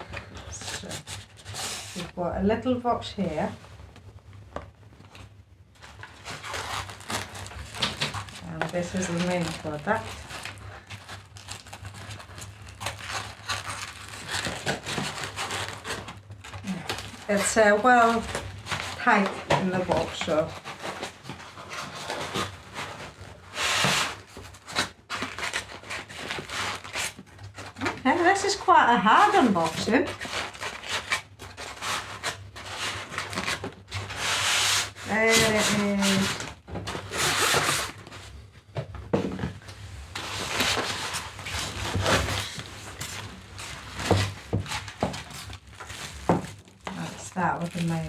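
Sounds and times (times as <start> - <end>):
packaging scraping against cardboard: 0.0 - 3.6, 5.0 - 48.0.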